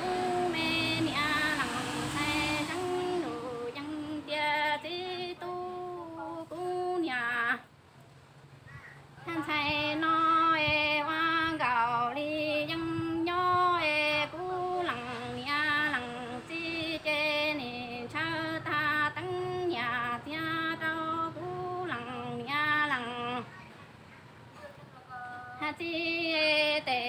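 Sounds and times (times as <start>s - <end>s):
woman singing unaccompanied: 0.0s - 7.7s, 8.9s - 24.1s, 24.8s - 27.0s.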